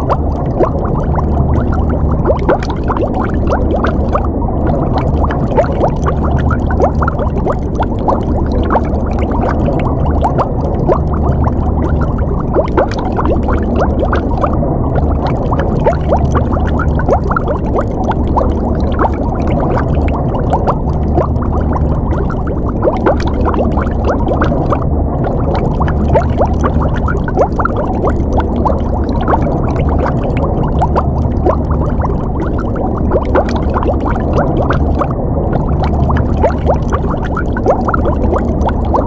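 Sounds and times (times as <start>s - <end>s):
underwater bubbling and gurgling: 0.0s - 39.0s
underwater low rumble: 0.0s - 39.0s.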